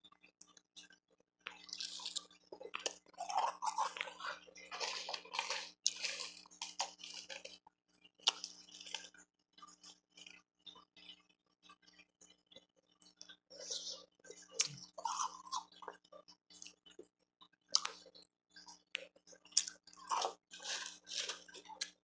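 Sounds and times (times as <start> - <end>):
chewing crunchy ice: 1.5 - 10.4, 12.5 - 17.1, 17.7 - 22.0.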